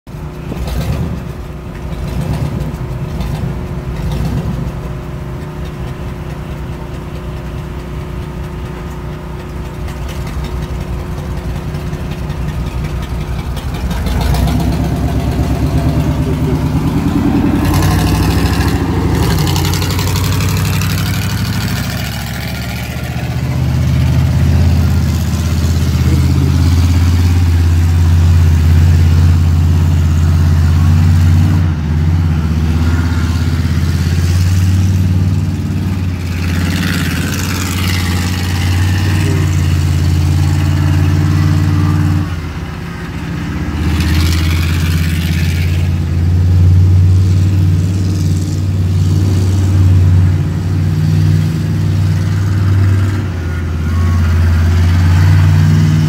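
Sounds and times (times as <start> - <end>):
monster truck engine revving: 0.2 - 56.0.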